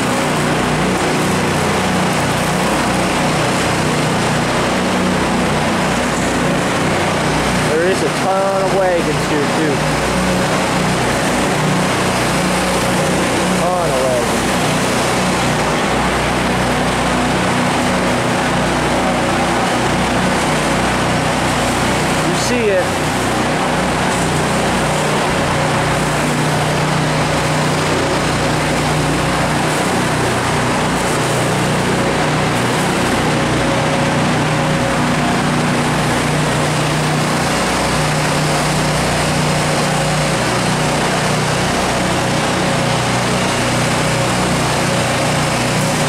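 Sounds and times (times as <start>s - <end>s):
machinery droning: 0.0s - 46.0s.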